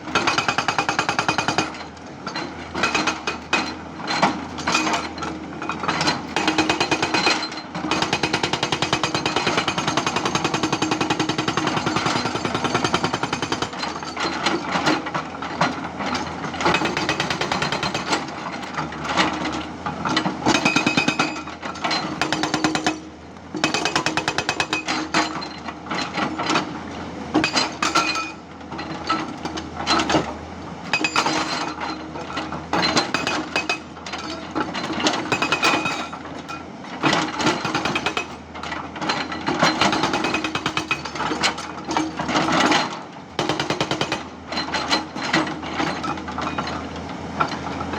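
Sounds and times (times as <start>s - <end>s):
hydraulic breaker hammering rock: 0.0s - 19.4s, 20.1s - 25.4s, 30.9s - 31.9s, 32.7s - 36.3s, 37.0s - 46.8s.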